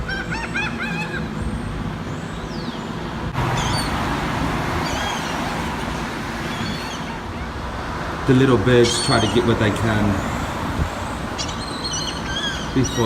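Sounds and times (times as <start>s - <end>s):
seagulls calling: 0.0s - 13.0s
street traffic: 0.0s - 13.0s.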